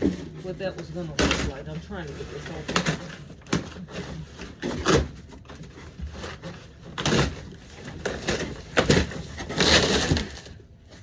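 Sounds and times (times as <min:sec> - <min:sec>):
cardboard packaging being torn: 0:00.0 - 0:11.0.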